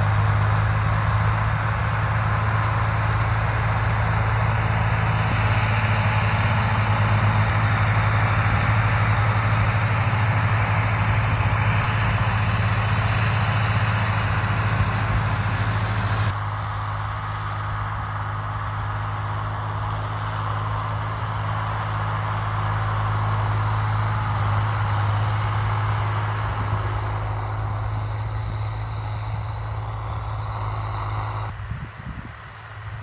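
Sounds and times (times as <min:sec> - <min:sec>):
tractor diesel engine droning: 0:00.0 - 0:33.0.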